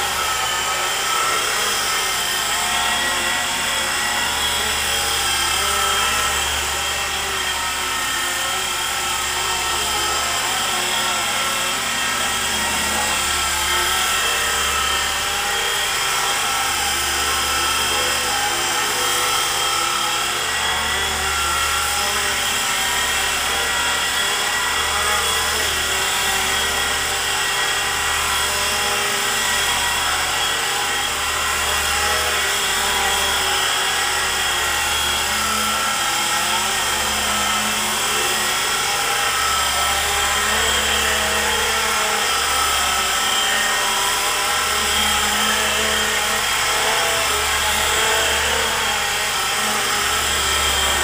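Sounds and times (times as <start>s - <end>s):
electric motor whine: 0.0s - 51.0s
rotor buzz: 0.0s - 51.0s.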